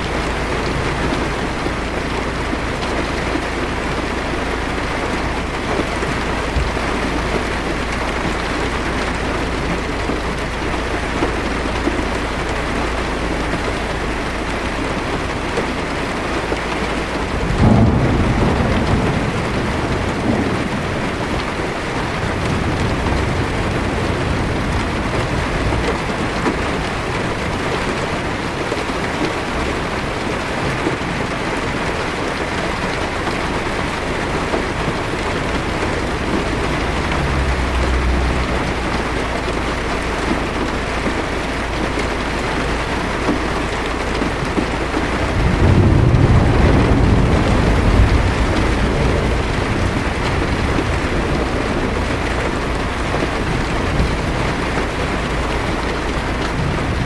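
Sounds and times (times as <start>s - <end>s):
heavy rain on car windshield: 0.0s - 57.0s
low thunder rumbling: 0.0s - 57.0s.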